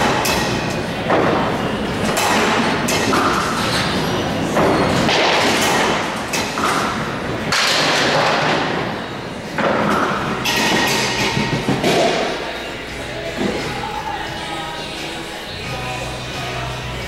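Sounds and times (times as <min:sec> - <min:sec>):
bowling balls thudding and rolling: 0:00.0 - 0:14.8.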